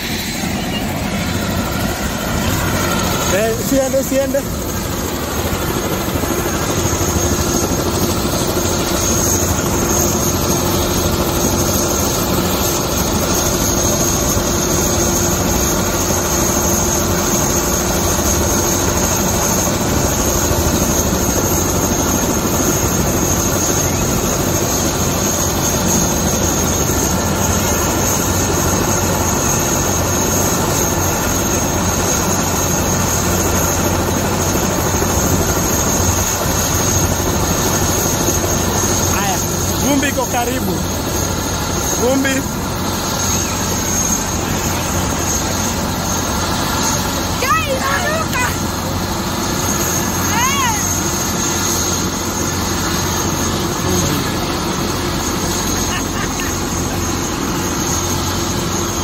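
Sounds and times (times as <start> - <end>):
helicopter turbine whine and rotor: 0.0 - 59.0.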